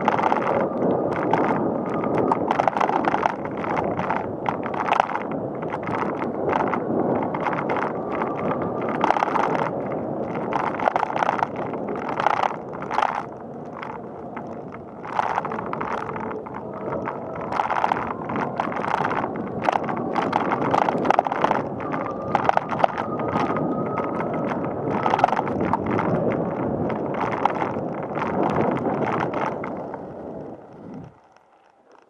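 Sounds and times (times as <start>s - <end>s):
bicycle tyre road noise: 0.0s - 32.0s
bike rattling: 0.0s - 32.0s
wind on microphone: 0.0s - 32.0s.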